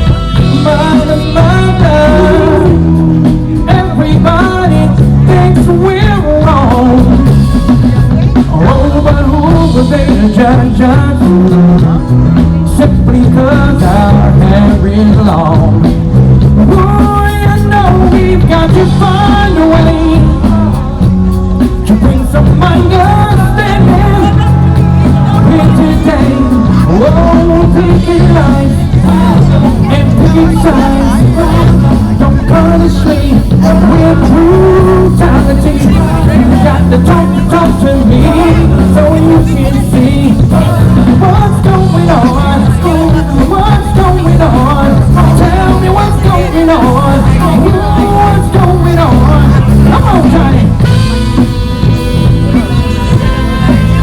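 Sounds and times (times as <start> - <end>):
drums: 0.0 - 54.0
heavy bass: 0.0 - 54.0
live band playing: 0.0 - 54.0
wavering lead melody: 0.0 - 54.0.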